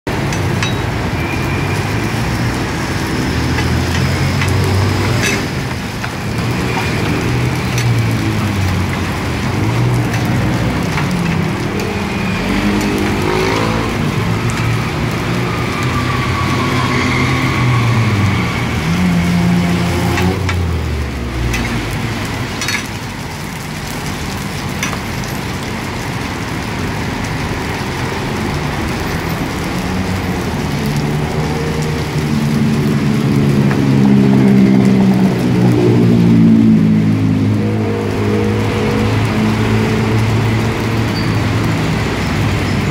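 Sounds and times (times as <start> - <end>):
food sizzling in hot oil: 0.1 - 42.9
vehicle engines passing: 0.1 - 42.9.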